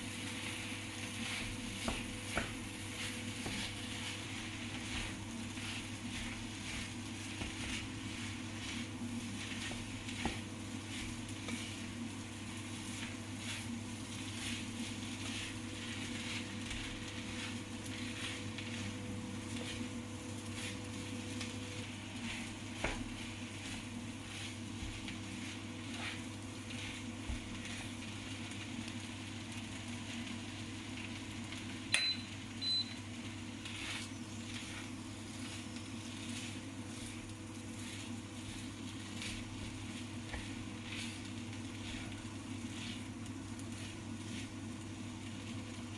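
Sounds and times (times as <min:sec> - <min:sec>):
food sizzling on griddle: 0:00.0 - 0:31.8, 0:32.6 - 0:45.9
constant low hum: 0:00.0 - 0:45.9.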